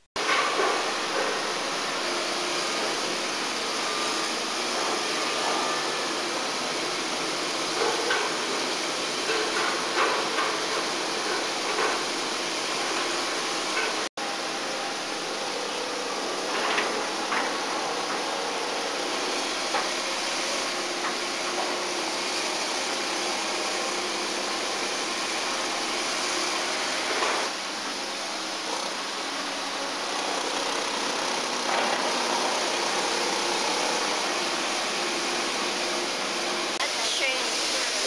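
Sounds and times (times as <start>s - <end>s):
heavy machinery engine running: 0.2s - 38.0s.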